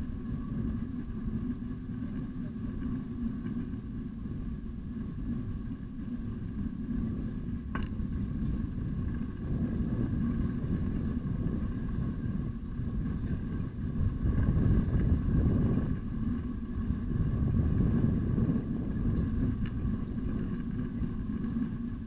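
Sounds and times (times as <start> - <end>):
faint steady hum: 0.0 - 22.0
wind and tyre rumble: 0.0 - 22.0.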